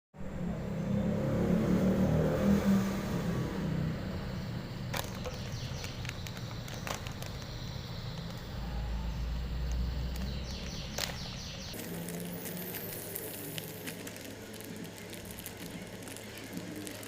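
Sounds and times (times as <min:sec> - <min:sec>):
passing vehicle rumble: 0:00.2 - 0:17.0.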